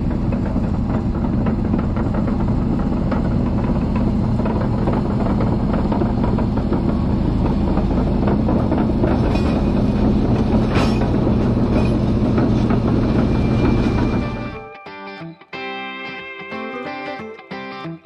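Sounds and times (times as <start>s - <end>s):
bulldozer diesel engine running: 0.0s - 14.6s
steel tracks clanking: 0.0s - 14.7s.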